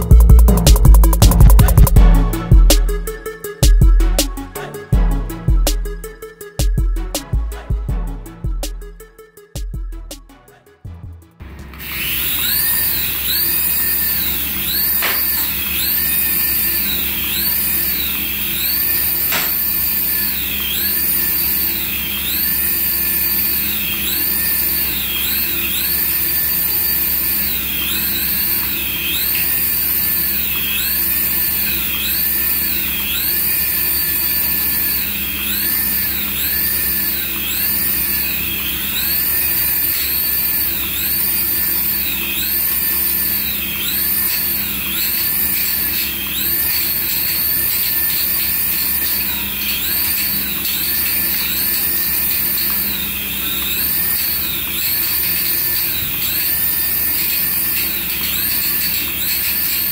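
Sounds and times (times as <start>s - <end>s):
toy helicopter motor whining: 11.7s - 59.9s.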